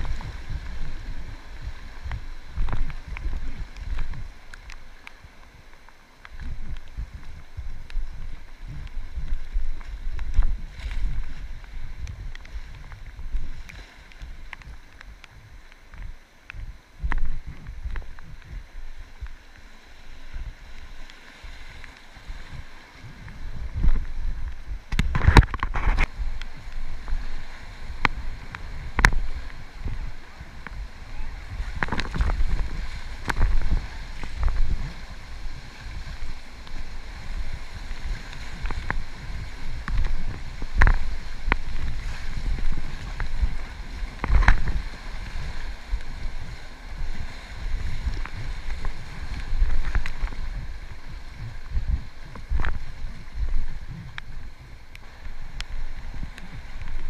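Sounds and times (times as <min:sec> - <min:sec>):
river water sloshing around kayak: 0:00.0 - 0:57.0
wind rumbling on microphone: 0:00.0 - 0:57.0.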